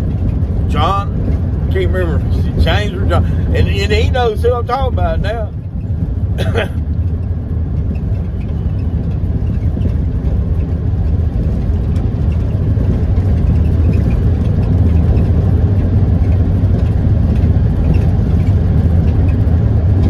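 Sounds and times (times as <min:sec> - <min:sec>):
road and engine noise in car cabin: 0:00.0 - 0:20.0.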